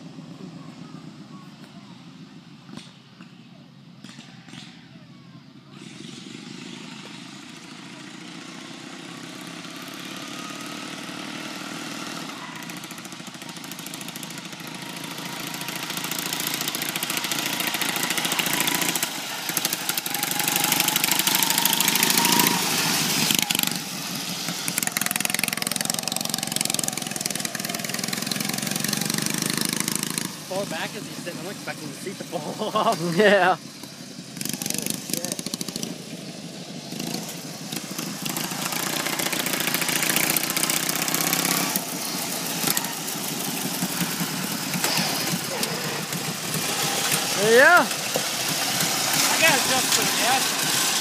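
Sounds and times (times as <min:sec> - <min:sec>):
racing lawn mower engine running: 0:05.6 - 0:51.0.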